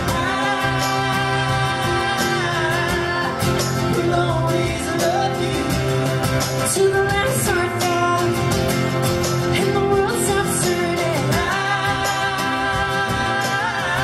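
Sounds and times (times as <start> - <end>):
woman singing: 0.0 - 6.0, 6.6 - 8.4, 9.5 - 14.0
electric guitar: 0.0 - 14.0
strummed acoustic guitars: 0.0 - 14.0.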